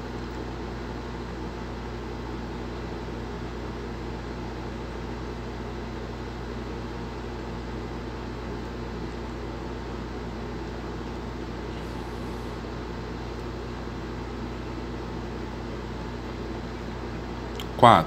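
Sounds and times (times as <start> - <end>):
background hum and hiss: 0.0 - 18.0.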